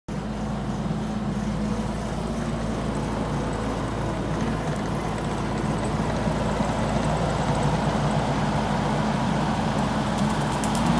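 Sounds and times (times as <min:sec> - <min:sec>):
skid steer engine droning: 0:00.1 - 0:10.9.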